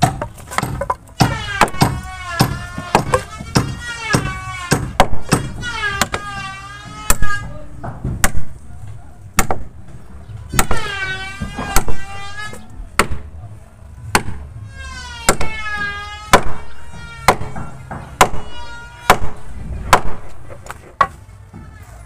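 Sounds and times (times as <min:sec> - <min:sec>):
hammer striking wood: 0:00.0 - 0:08.6, 0:09.4 - 0:09.8, 0:10.5 - 0:13.3, 0:14.1 - 0:14.4, 0:15.2 - 0:21.2.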